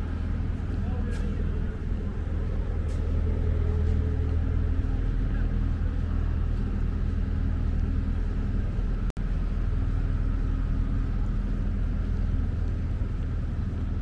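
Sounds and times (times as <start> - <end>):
faint town noise: 0.0 - 14.0
low engine hum with tones: 0.0 - 14.0.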